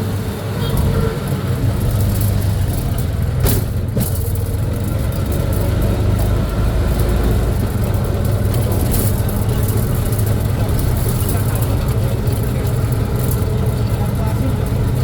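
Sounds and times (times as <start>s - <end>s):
road noise: 0.0s - 15.0s
vehicle engine rumbling: 0.0s - 15.0s.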